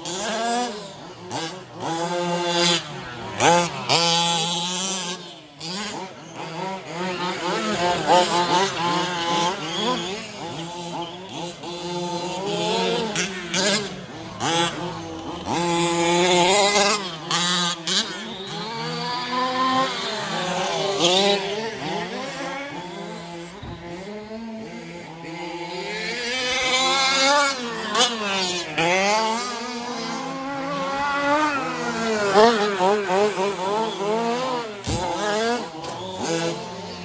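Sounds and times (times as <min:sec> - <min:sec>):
rc truck engines revving: 0:00.0 - 0:37.0.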